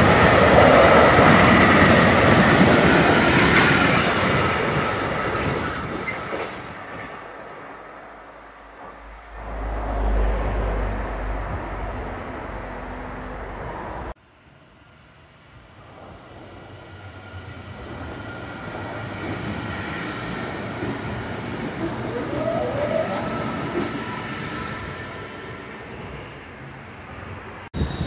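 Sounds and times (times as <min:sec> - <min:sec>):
electric train approaching: 0:00.0 - 0:28.0
train rumbling past: 0:00.0 - 0:28.0.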